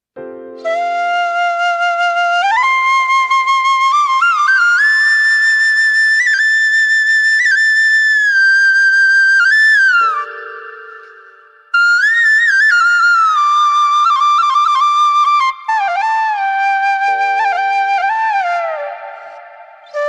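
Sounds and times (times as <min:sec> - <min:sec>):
solo flute melody: 0:00.2 - 0:20.0.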